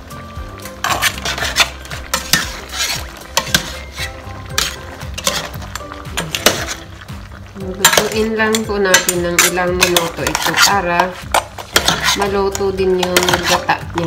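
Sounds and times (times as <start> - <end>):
ladle scraping metal pot: 0.6 - 14.0.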